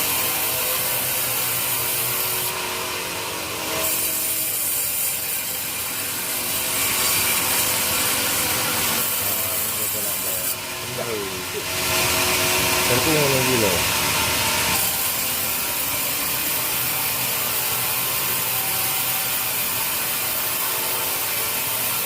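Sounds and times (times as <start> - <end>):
sawmill saw cutting wood: 0.0 - 22.0.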